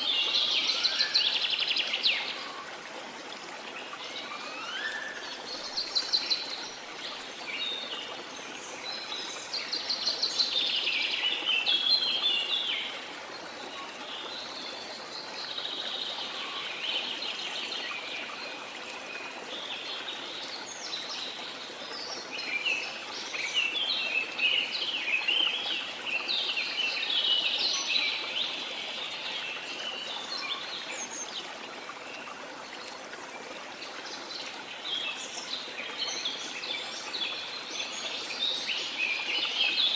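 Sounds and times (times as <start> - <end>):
rushing falling water: 0.0 - 39.9.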